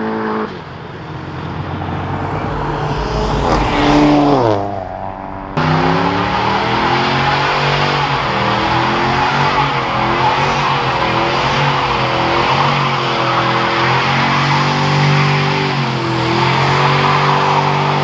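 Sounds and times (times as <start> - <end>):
car accelerating away: 0.0 - 18.0
truck engine revving high: 0.0 - 18.0.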